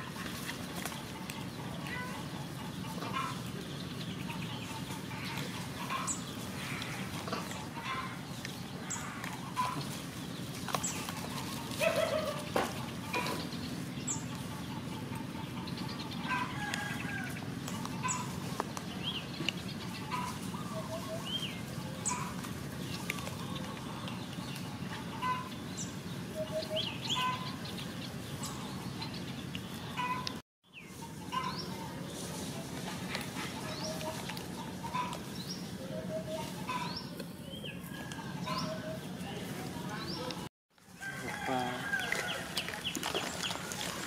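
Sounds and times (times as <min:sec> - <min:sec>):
animal calls and chirps: 0:00.0 - 0:40.5.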